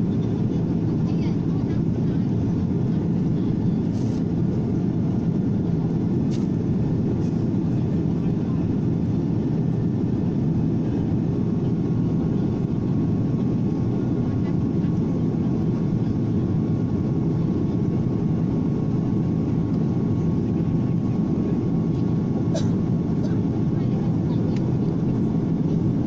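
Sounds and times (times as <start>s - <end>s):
airliner cabin engine hum: 0.0s - 26.0s.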